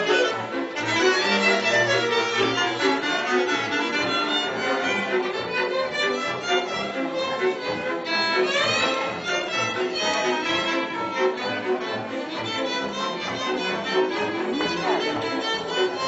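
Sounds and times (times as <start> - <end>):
string band playing a tune: 0.0 - 16.0.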